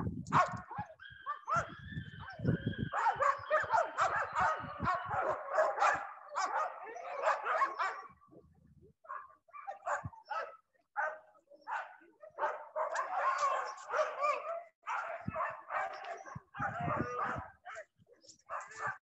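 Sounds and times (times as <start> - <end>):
dogs barking and yipping: 0.3 - 8.3, 9.0 - 19.0.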